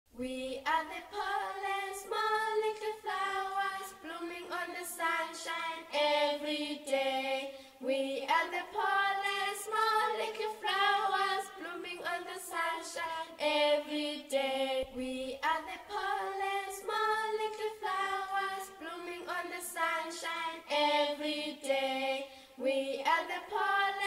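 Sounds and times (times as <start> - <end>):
voices singing a cappella: 0.1 - 24.0.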